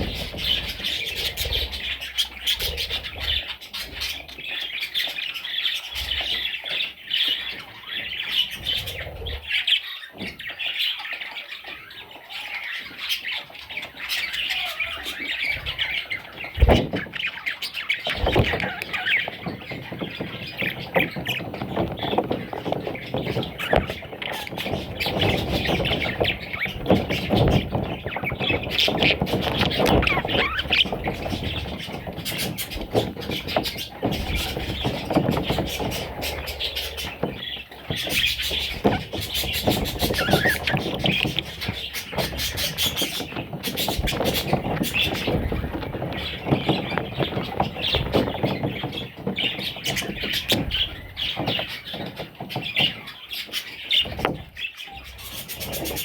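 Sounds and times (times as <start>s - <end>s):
budgerigar chicks chirping: 0.0s - 56.0s.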